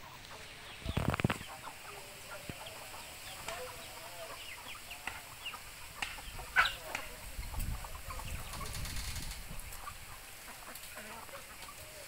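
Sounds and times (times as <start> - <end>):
young chickens clucking and chirping: 0.0 - 12.0.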